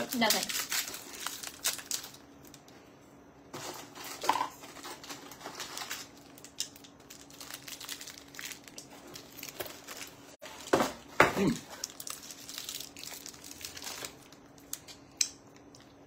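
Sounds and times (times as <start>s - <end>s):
candy wrappers crinkling: 0.0s - 2.7s, 3.6s - 10.7s, 11.4s - 16.0s.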